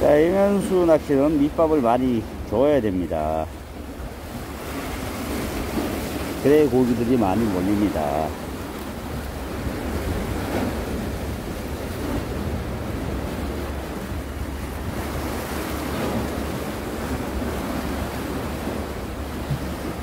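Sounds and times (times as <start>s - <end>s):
small waves washing on rocks: 0.0s - 20.0s.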